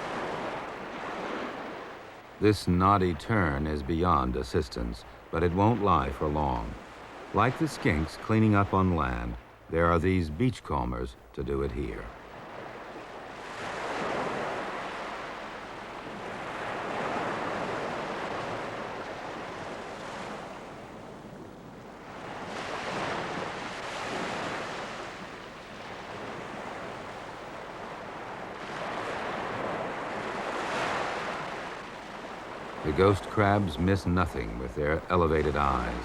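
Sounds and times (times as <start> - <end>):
waves breaking on a beach: 0.0 - 36.0.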